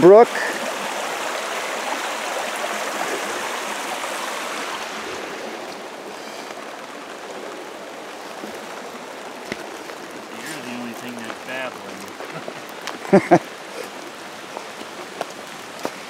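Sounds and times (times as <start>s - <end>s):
brook babbling over stones: 0.0s - 16.0s.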